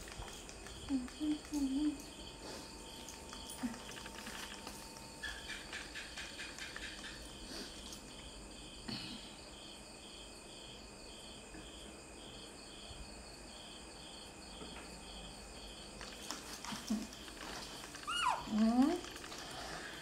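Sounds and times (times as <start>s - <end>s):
insect chirping: 0.0s - 20.0s.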